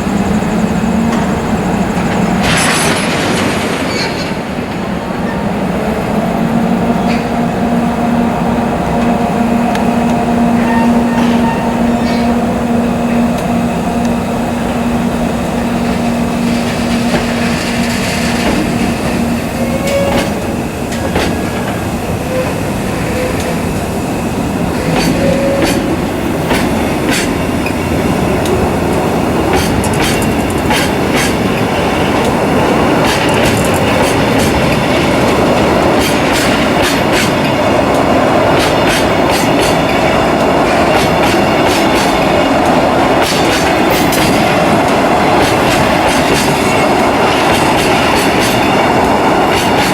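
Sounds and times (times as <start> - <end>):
train wheels clacking on rails: 0.0 - 49.9.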